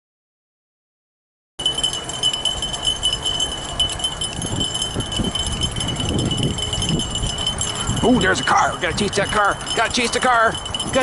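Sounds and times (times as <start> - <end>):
metallic jingling: 1.6 - 11.0
tyres rolling on trail: 1.6 - 11.0
wind rumble: 1.6 - 11.0.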